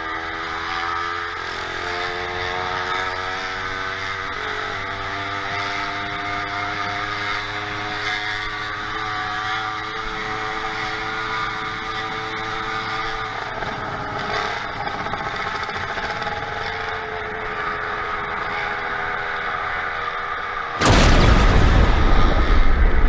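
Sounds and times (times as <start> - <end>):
motorized bicycle engine running: 0.0 - 20.1
road and wind noise: 0.0 - 23.0.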